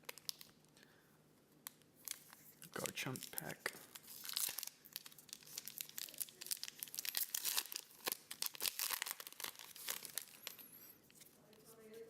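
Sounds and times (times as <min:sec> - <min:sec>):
foil wrapper crinkling and tearing: 0:00.0 - 0:00.8, 0:01.6 - 0:11.2.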